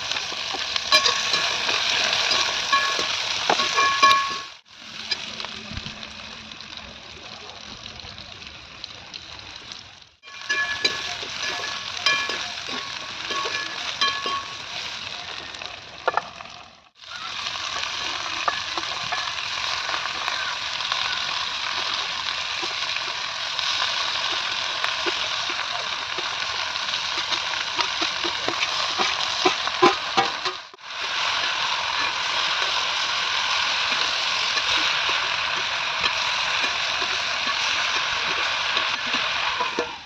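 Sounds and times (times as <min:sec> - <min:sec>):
spoon clinking and scraping a pan: 0:00.0 - 0:05.3, 0:10.2 - 0:15.5, 0:17.2 - 0:40.0
vegetables sizzling in a pan: 0:00.0 - 0:40.0.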